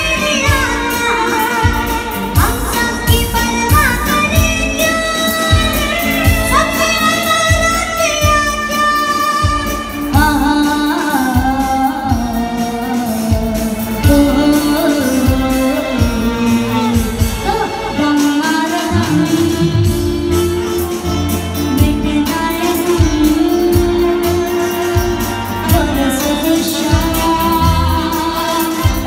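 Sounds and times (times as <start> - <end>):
saxophone: 0.0 - 29.0
woman singing into microphone: 0.0 - 29.0.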